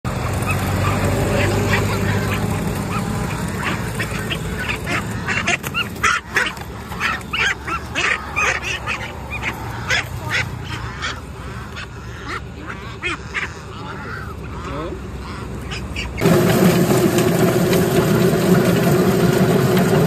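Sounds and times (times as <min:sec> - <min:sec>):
ducks quacking: 0:00.2 - 0:20.0.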